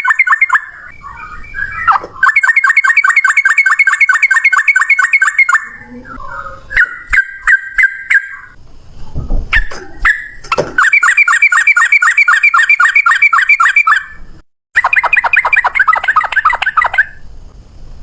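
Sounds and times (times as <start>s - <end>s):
bulbul singing rapid notes: 0.0s - 8.6s, 9.6s - 14.2s, 14.8s - 17.2s.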